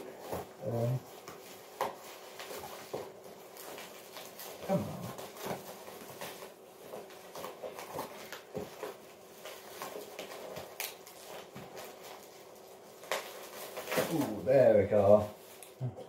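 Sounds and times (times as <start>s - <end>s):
cardboard and bubble wrap rustling: 0.0s - 16.0s.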